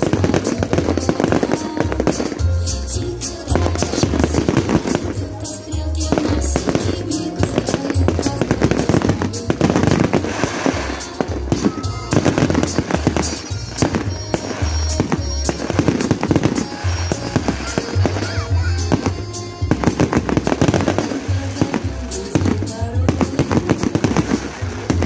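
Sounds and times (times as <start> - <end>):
fireworks bursting and crackling: 0.0 - 25.0
loud music with pulsing bass: 0.0 - 25.0.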